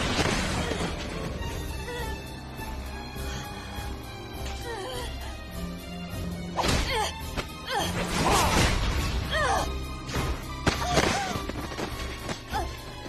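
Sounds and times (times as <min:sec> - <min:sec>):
dramatic background music: 0:00.0 - 0:13.0.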